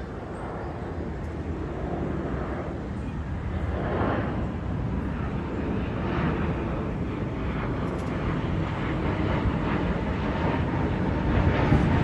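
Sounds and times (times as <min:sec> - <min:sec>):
airliner engines rumbling: 0:00.0 - 0:12.0.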